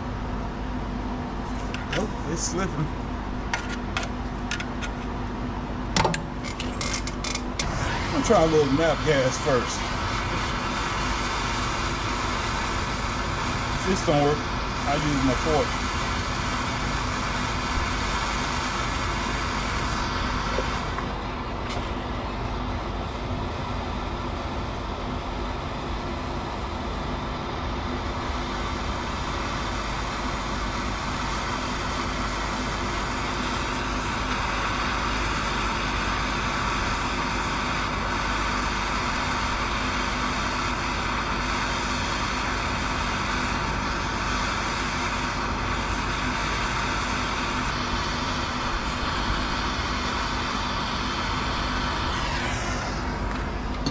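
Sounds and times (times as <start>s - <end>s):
gas torch hissing: 1.6s - 2.9s, 7.6s - 24.2s, 28.0s - 53.9s.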